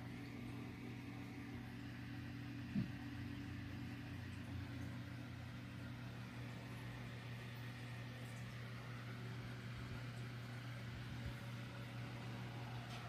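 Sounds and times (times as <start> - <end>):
low hum with faint hiss: 0.0 - 13.0.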